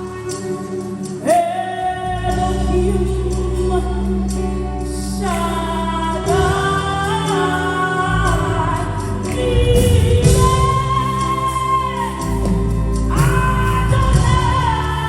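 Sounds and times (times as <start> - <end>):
gospel singing: 0.0 - 15.0
sustained bass: 0.0 - 15.0.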